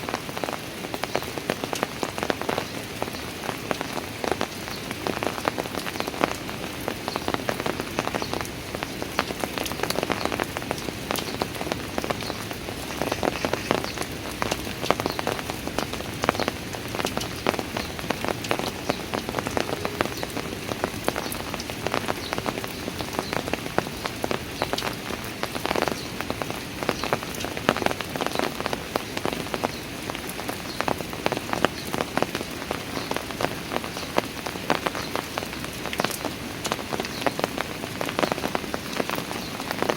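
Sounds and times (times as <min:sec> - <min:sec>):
rain falling on stairs: 0:00.0 - 0:39.9.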